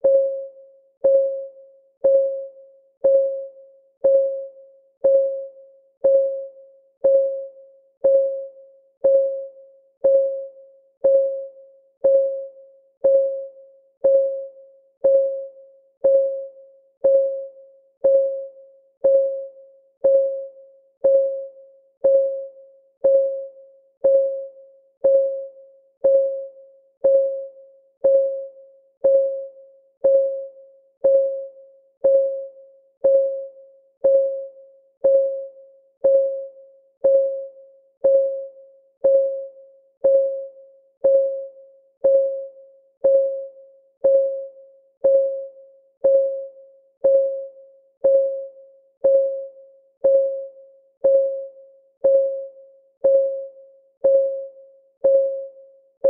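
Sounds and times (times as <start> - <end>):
timer clock ticking: 1.0 - 55.6.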